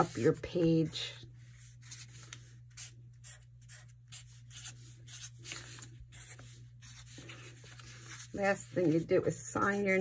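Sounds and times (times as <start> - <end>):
low steady hum: 0.0 - 10.0
marker scratching on paper: 1.8 - 10.0.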